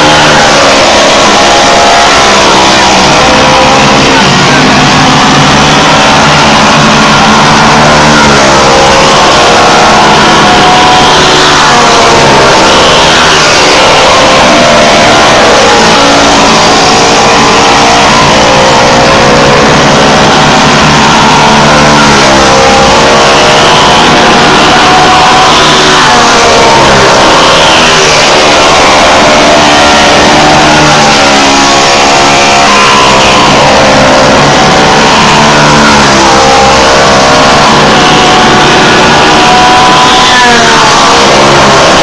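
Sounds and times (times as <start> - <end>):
race car engines at full throttle: 0.0 - 42.0.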